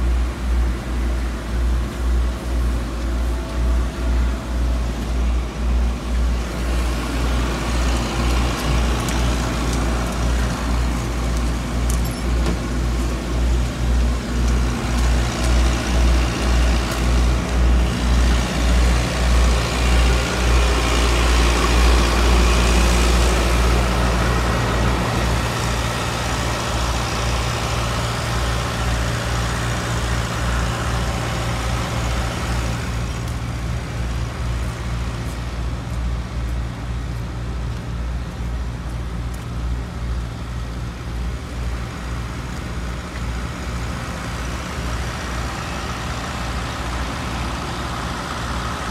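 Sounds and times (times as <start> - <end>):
diesel engine droning: 0.0 - 48.9.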